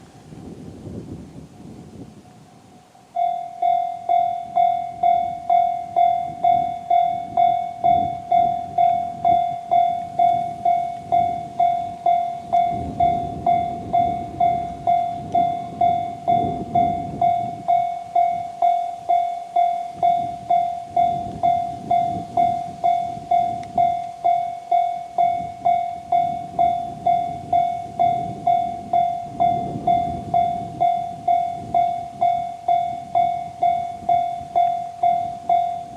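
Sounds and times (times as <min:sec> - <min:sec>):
level-crossing alarm bell: 0:01.4 - 0:35.9.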